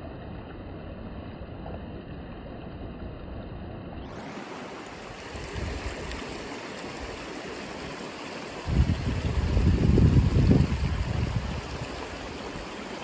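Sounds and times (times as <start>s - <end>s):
creek water babbling: 0.0s - 13.0s.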